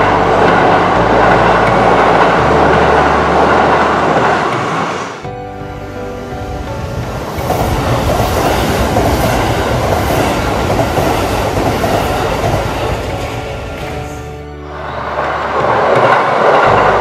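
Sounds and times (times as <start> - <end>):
train wheels rumbling on rails: 0.0 - 5.3, 6.2 - 17.0.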